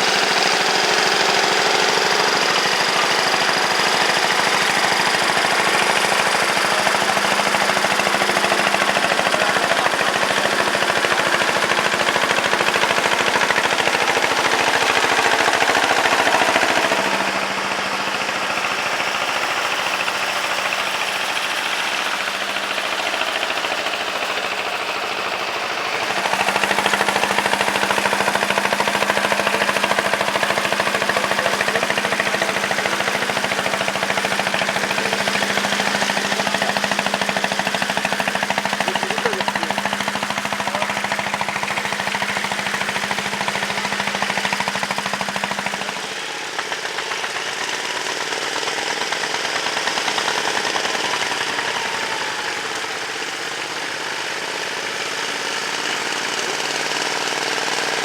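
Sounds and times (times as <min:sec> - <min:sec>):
tractor diesel engine knocking: 0:00.0 - 0:58.0.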